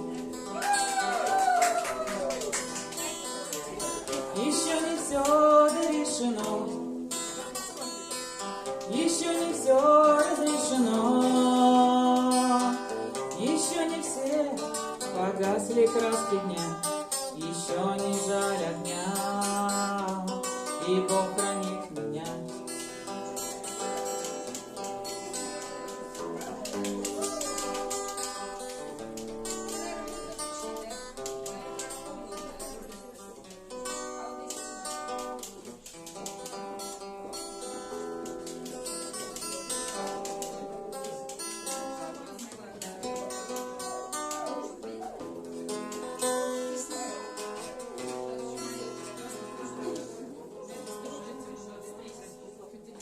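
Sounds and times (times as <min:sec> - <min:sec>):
acoustic guitar plucked notes: 0:00.0 - 0:00.6, 0:02.4 - 0:53.0.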